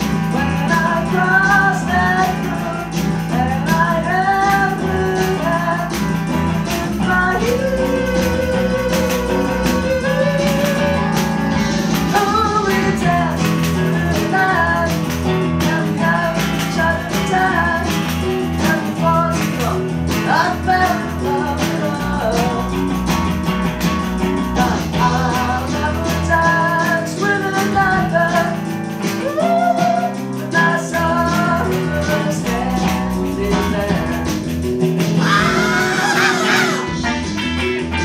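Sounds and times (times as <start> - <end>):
electric guitar: 0.0 - 38.0
rock music with drums: 0.0 - 38.0.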